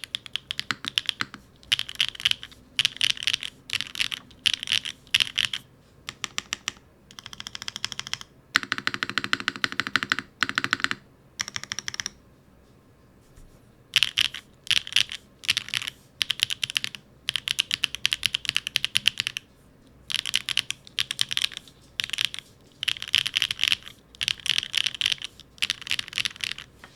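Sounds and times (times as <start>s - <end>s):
mechanical keyboard typing: 0.0s - 12.2s, 14.0s - 19.4s, 20.1s - 26.7s.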